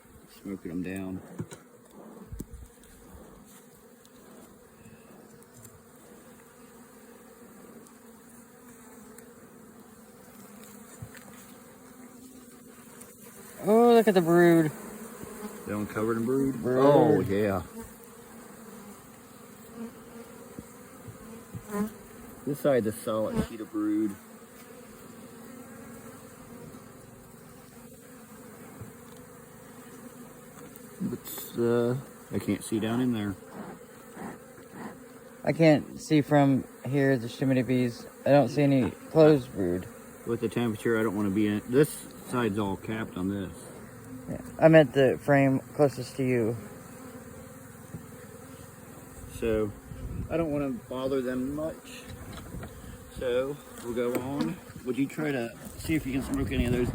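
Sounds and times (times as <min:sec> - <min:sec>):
honey bees buzzing: 0:00.0 - 0:56.9.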